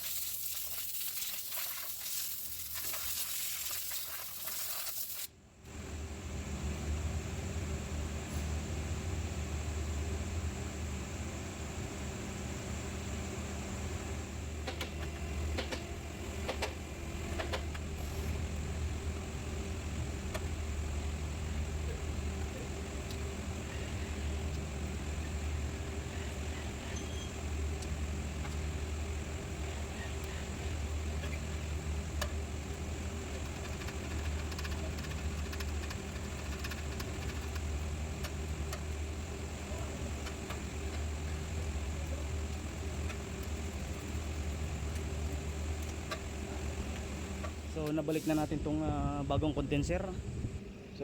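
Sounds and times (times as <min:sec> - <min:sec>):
low mechanical hum: 0:00.0 - 0:51.0.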